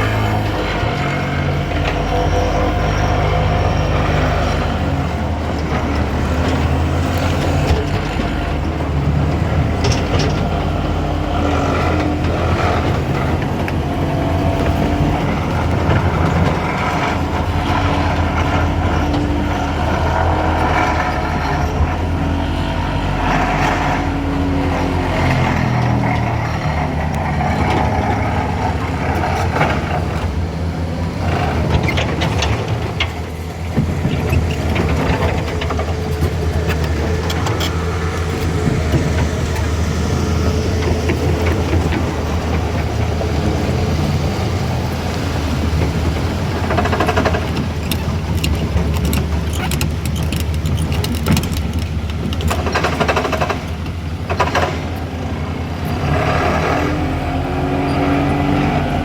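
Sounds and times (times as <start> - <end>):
vehicle engines running: 0.0 - 59.0.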